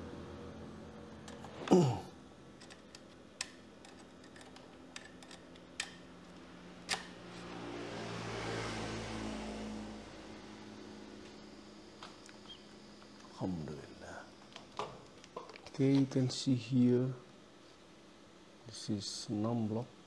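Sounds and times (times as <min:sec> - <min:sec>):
cooling fan humming: 0:00.0 - 0:20.0.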